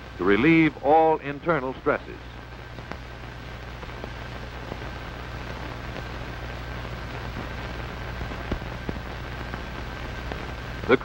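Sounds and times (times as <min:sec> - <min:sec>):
film soundtrack hiss: 0:00.0 - 0:11.0
record crackle: 0:00.0 - 0:11.0.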